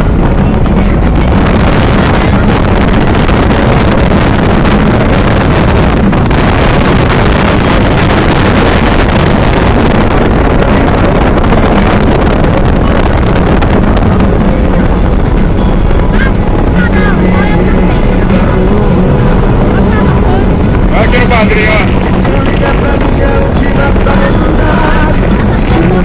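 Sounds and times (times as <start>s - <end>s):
steady loud rumble: 0.0s - 26.0s
wind buffeting microphone: 0.0s - 26.0s.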